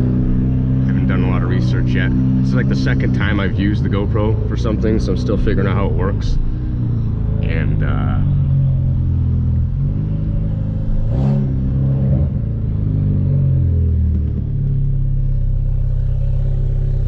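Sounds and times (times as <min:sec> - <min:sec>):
car engine while driving: 0:00.0 - 0:17.0.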